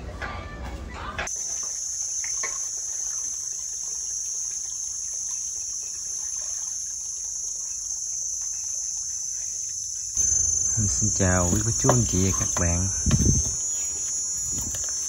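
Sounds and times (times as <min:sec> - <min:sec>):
cicadas droning: 0:01.2 - 0:15.0.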